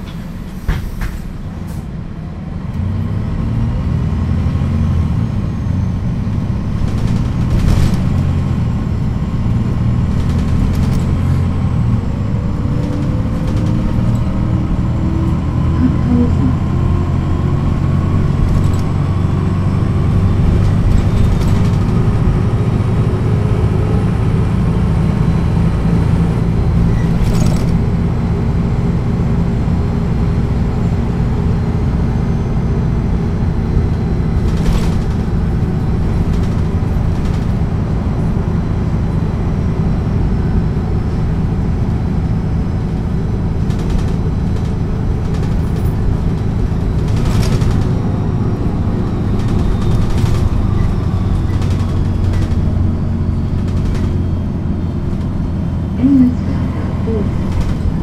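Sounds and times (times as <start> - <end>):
bus diesel engine droning: 0.0 - 58.0.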